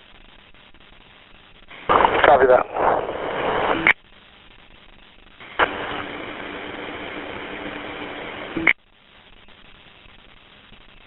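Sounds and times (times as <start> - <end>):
low steady hum: 0.0 - 11.0
radio static hiss: 0.0 - 11.0
radio squelch burst: 1.5 - 10.9.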